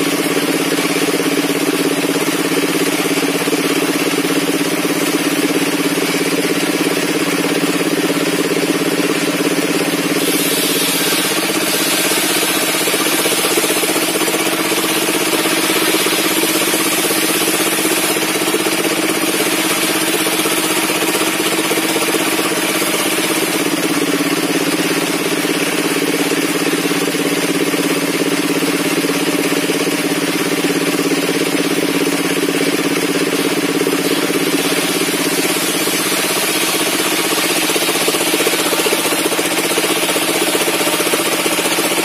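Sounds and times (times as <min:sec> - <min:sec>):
circular saw running: 0:00.0 - 0:42.0.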